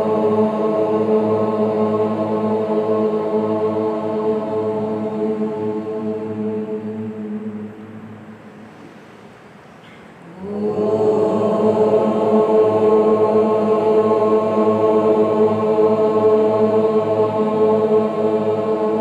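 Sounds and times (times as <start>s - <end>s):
low chant-like drone: 0.0s - 9.3s, 10.2s - 19.0s.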